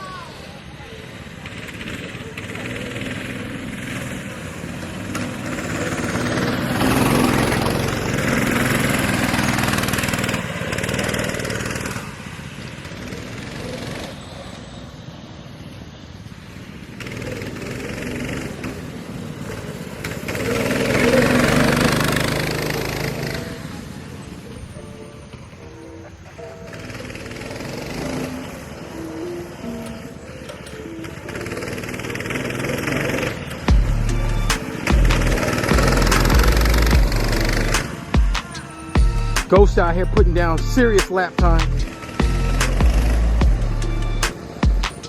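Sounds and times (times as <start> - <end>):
mini bike engines revving: 0.0 - 45.0.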